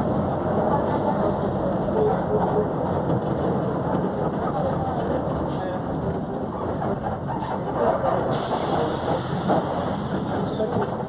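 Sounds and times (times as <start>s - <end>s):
bus differential roaring: 0.0s - 11.0s
drivetrain and road noise: 0.0s - 11.0s.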